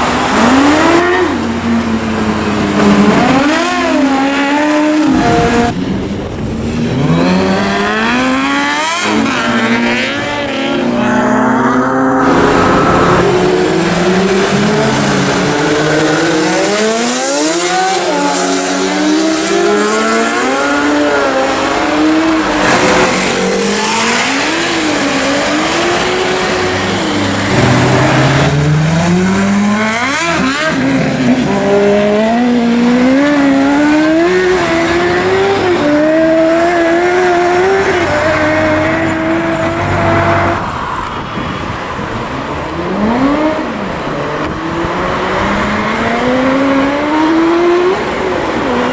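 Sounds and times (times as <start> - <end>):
motorcycle engines revving: 0.0 - 40.8, 41.4 - 48.9.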